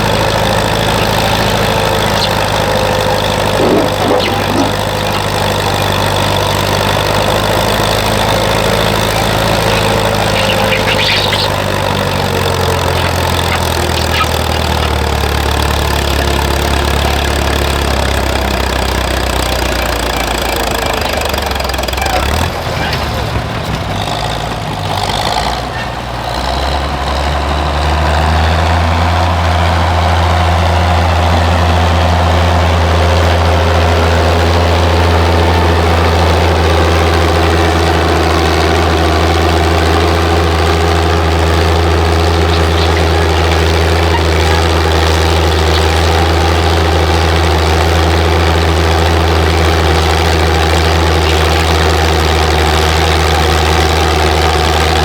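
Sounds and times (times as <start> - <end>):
engine running with deep drone: 0.0 - 55.0.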